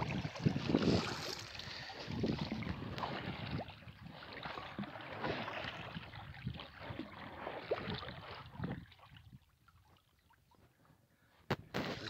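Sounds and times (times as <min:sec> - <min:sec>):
oars splashing in water: 0:00.0 - 0:10.3
water rushing along hull: 0:00.0 - 0:10.3.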